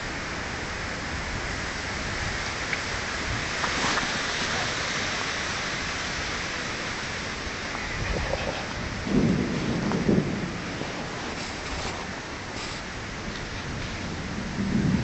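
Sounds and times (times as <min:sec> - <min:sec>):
heavy rain falling: 0:00.0 - 0:15.0
low thunder rumble: 0:00.0 - 0:15.0.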